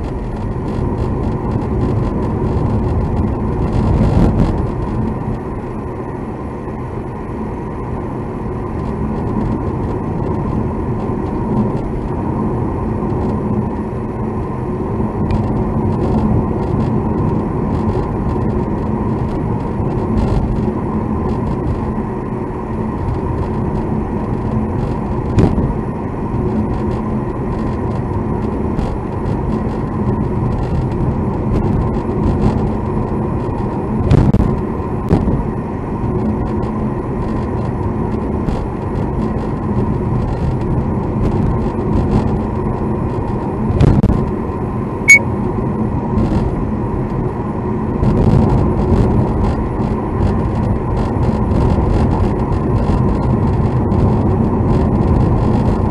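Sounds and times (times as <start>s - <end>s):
car road and engine noise: 0.0s - 55.9s
faint steady whine: 0.0s - 55.9s.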